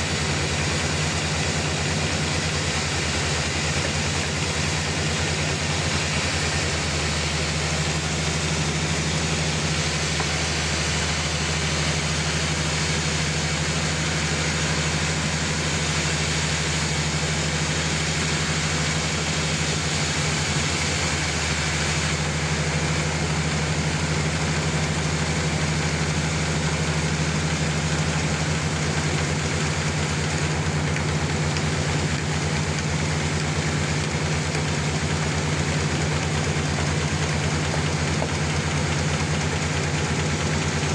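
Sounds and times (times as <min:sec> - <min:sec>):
sawmill engine humming: 0:00.0 - 0:40.9.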